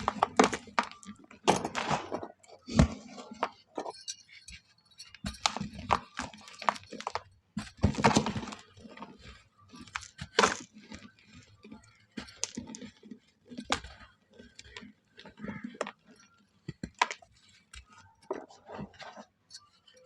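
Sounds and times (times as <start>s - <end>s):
dry mud shapes crumbling: 0.0s - 20.0s.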